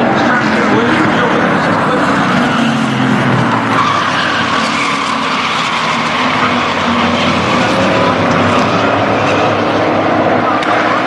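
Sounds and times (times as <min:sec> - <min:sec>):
racing truck engines: 0:00.0 - 0:11.0.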